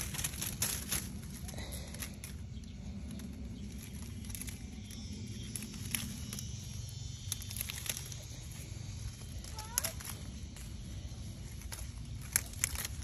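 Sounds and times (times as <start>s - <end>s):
leaves rustling and crackling: 0.0s - 13.0s
low steady rumble: 0.0s - 13.0s.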